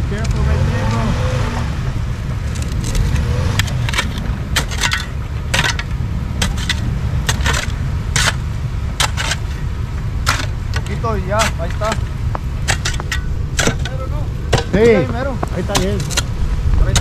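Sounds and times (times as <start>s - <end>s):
vehicle engine low rumble: 0.0s - 17.0s
sharp clicks and crunches: 2.4s - 17.0s.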